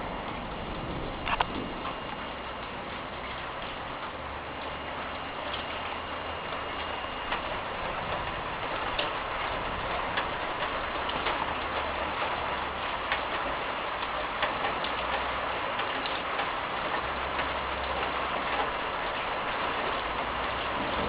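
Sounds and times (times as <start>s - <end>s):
rain hissing: 0.0s - 21.0s
raindrop clicks: 0.1s - 21.0s.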